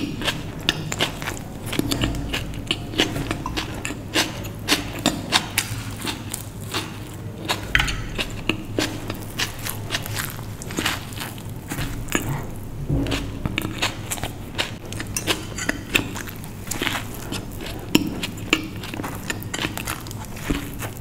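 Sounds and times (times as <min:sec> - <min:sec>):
close chewing with wet smacks: 0:00.0 - 0:21.0.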